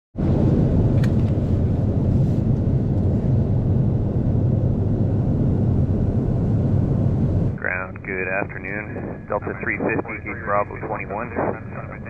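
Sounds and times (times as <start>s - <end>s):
aircraft cabin ventilation hum: 0.2s - 12.0s.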